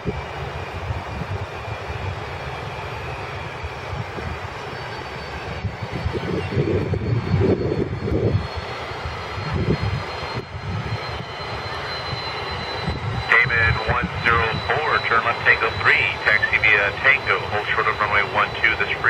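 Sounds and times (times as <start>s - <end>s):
jet engine rumble with whine: 0.0s - 19.0s.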